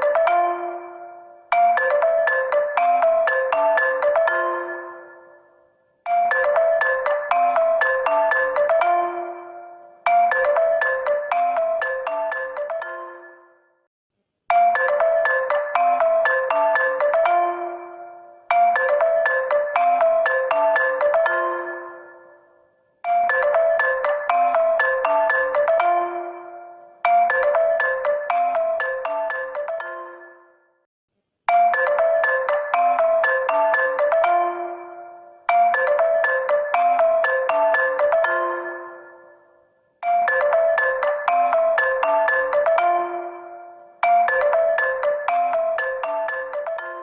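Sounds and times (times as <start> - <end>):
smartphone ringtone melody: 0.0 - 13.9, 14.5 - 30.9, 31.5 - 47.0.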